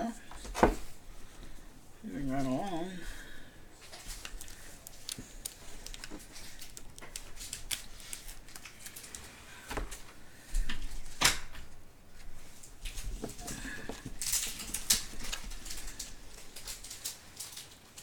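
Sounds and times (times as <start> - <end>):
cards clicking and rustling: 2.4 - 11.6, 12.8 - 18.0.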